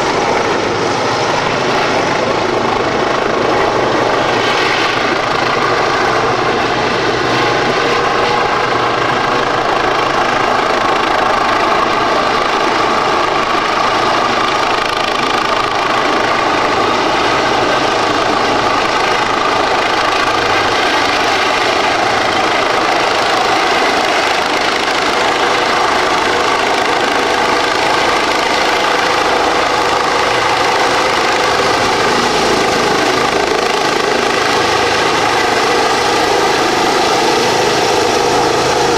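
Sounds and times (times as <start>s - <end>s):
helicopter rotor noise: 0.0s - 38.9s
helicopter turbine whine: 0.0s - 38.9s.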